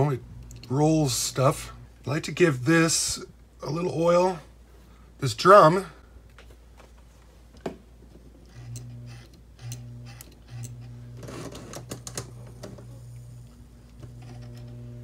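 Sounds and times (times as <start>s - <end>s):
low electrical buzz: 0.0s - 6.1s, 8.2s - 15.0s.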